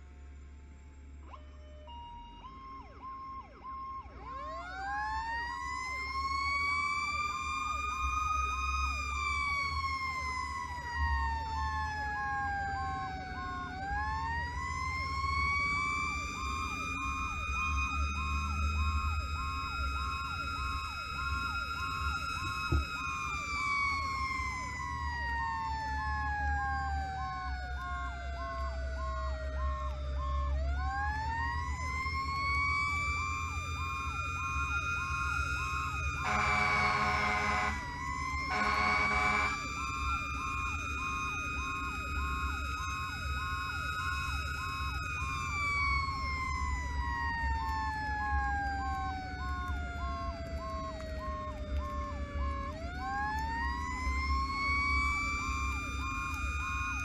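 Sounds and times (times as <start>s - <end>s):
siren slow wail: 0.0s - 57.0s
truck engine droning: 0.0s - 57.0s
siren fast yelp tone: 1.3s - 57.0s.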